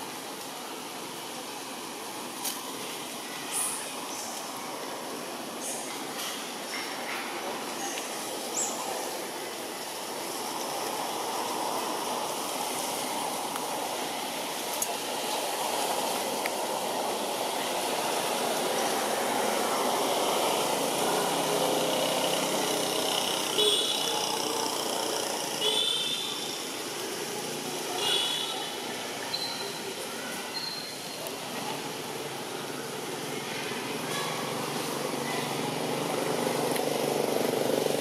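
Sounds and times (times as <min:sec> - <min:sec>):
steady rushing noise: 0:00.0 - 0:30.5.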